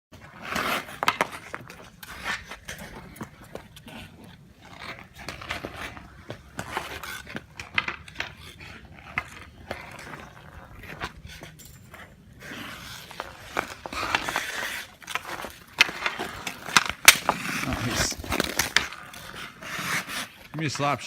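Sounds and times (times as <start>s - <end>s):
skate scrapes on ice: 0.2s - 21.0s
hockey sticks clacking on puck: 0.5s - 21.0s.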